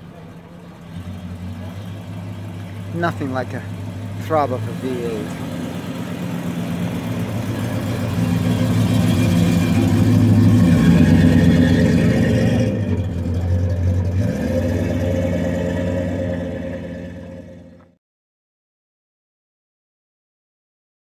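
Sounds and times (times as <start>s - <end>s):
car engine throbbing: 0.0s - 18.0s.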